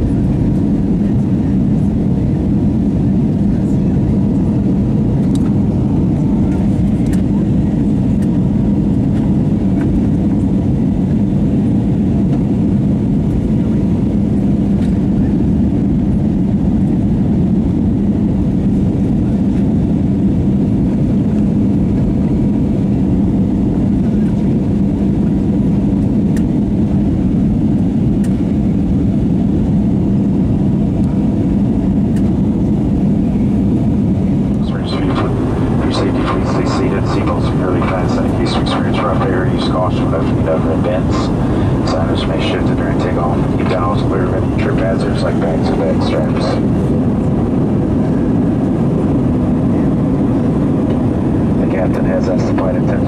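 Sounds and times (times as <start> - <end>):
jet engines low hum: 0.0 - 53.0
rushing air in airplane cabin: 0.0 - 53.0.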